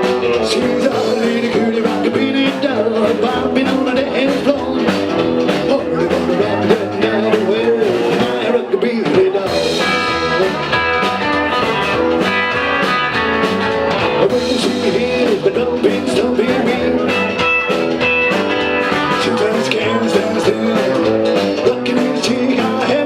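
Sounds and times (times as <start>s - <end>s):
guitar: 0.0s - 23.0s
rockabilly band music: 0.0s - 23.0s.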